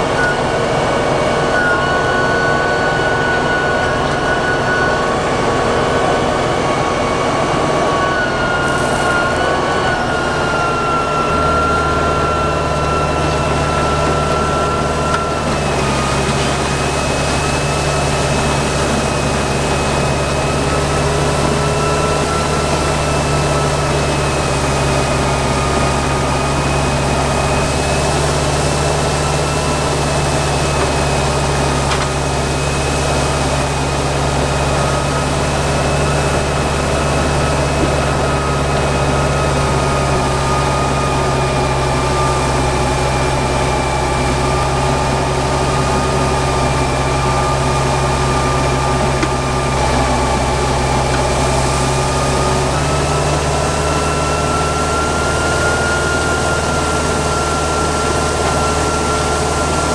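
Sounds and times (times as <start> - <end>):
thin steady whine: 0.0 - 59.9
tractor diesel engine running: 0.0 - 59.9.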